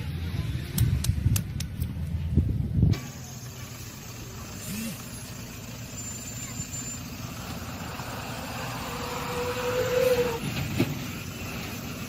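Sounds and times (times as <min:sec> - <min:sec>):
heavy vehicle rumbling: 0:00.0 - 0:12.0.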